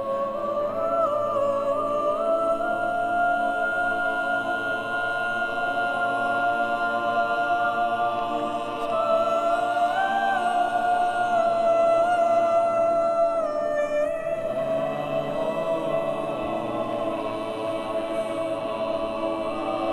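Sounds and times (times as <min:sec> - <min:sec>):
voices singing long held notes: 0:00.0 - 0:19.9.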